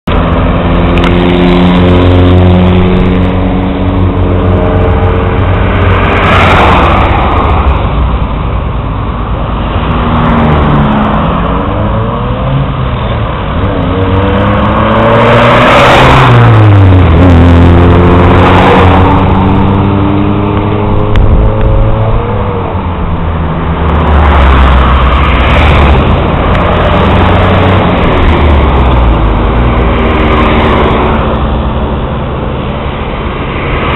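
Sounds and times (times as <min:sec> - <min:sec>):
car and truck engines accelerating: 0:00.1 - 0:33.9
vehicles rushing past: 0:00.1 - 0:33.9.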